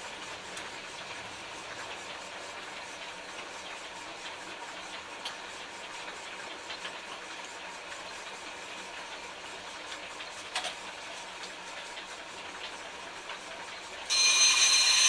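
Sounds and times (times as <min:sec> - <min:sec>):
potter's wheel running with ticking: 0:00.0 - 0:15.0.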